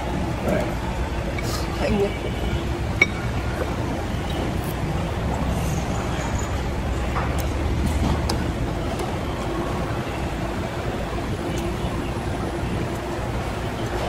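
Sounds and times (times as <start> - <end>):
food court background rumble: 0.0 - 14.0.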